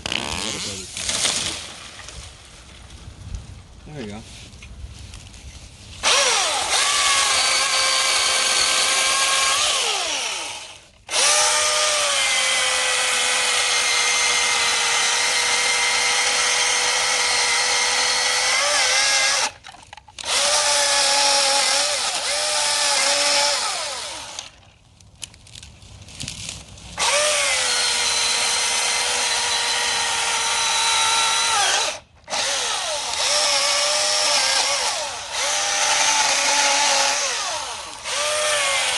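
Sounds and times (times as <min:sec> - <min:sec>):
electric chainsaw cutting wood: 0:00.0 - 0:01.5, 0:06.0 - 0:19.6, 0:20.2 - 0:24.6, 0:27.0 - 0:38.9.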